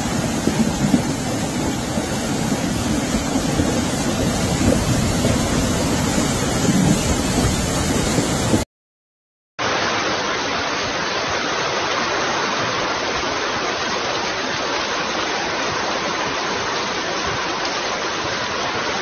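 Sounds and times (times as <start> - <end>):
floodwater rushing: 0.0 - 8.6, 9.6 - 19.0
torrential rain: 0.0 - 8.6, 9.6 - 19.0.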